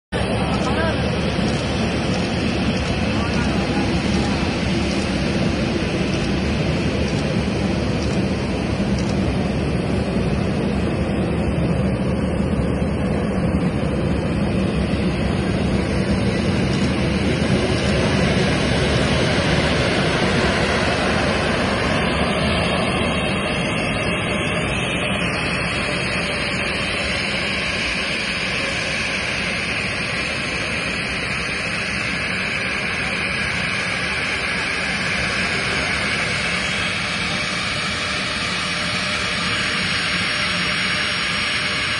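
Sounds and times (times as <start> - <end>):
high jet whine: 0.1 - 41.9
jet engines running: 0.1 - 41.9.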